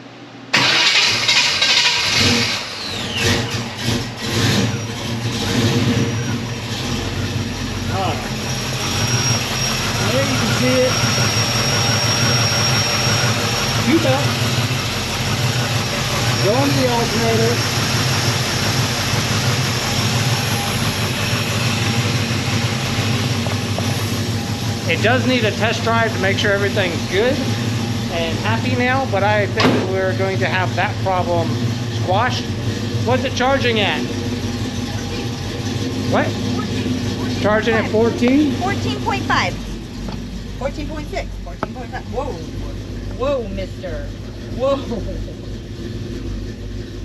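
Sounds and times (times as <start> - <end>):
car engine running: 0.0 - 47.0
falling whine: 0.0 - 47.0.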